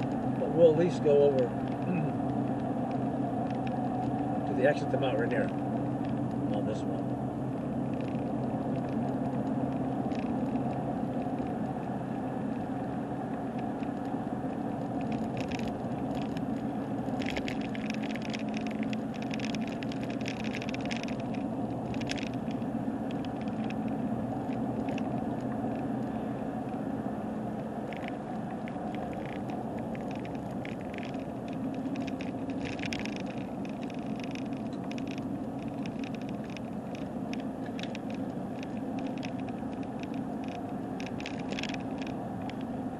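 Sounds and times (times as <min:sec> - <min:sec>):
camera rattling: 0:00.0 - 0:42.9
car engine and road noise: 0:00.0 - 0:42.9.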